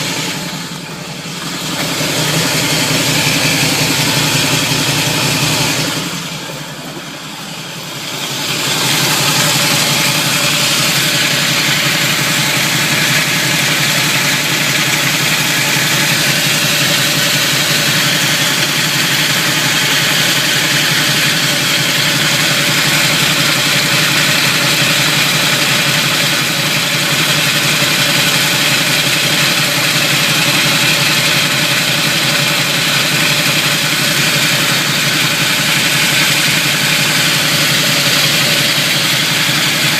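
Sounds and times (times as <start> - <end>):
car engine idling low: 0.0 - 39.9
steady grinding noise: 0.0 - 39.9.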